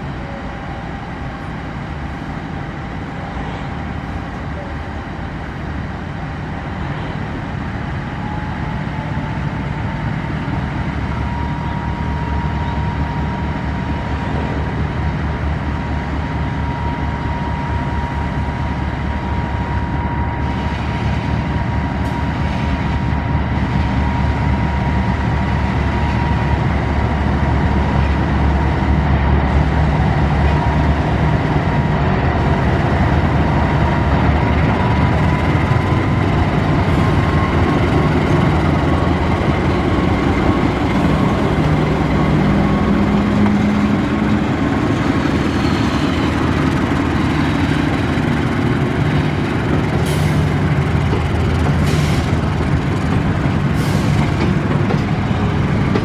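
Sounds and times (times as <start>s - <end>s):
train wheels on rails: 0.0s - 56.0s
diesel engine running loud: 6.1s - 56.0s.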